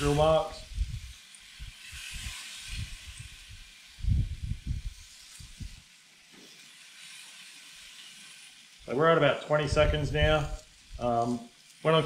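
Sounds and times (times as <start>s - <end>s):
steak sizzling on grill: 0.0s - 12.0s.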